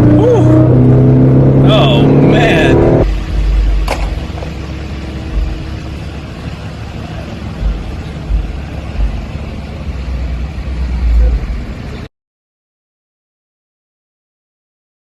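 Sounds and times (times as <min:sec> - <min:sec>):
vehicle road noise: 0:00.0 - 0:12.1.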